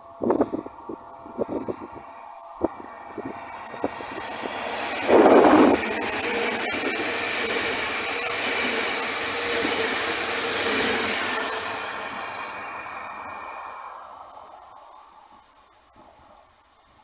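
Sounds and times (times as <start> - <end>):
carriages rushing rumble: 0.0 - 16.2
train passing: 0.0 - 16.9.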